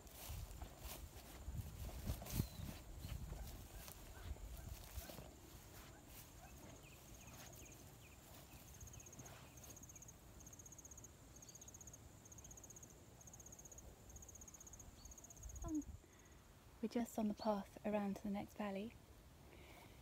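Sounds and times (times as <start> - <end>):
insect chirping: 0.2 - 16.6.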